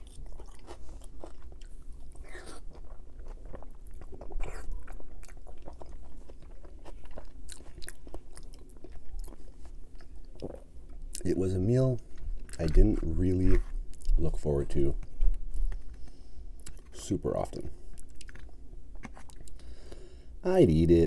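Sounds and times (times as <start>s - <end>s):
close chewing and biting: 0.0s - 11.4s, 12.0s - 19.7s.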